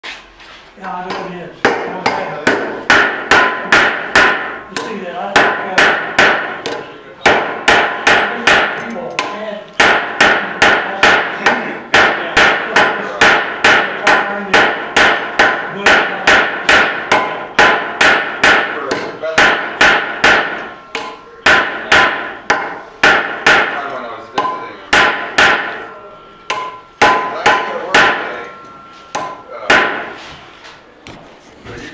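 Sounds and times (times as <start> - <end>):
hammer striking steel on anvil: 1.1 - 30.2.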